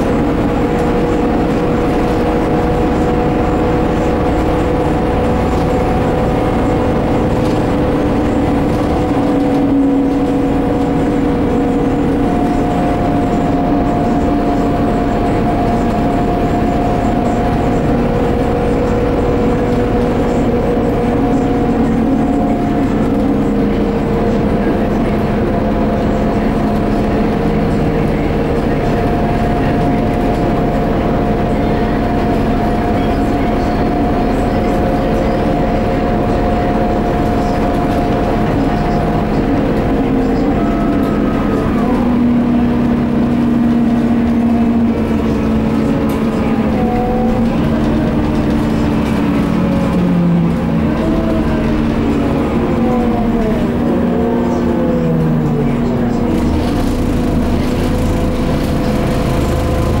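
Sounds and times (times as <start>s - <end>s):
bus diesel engine running: 0.0s - 60.0s
gearbox whine: 0.0s - 60.0s.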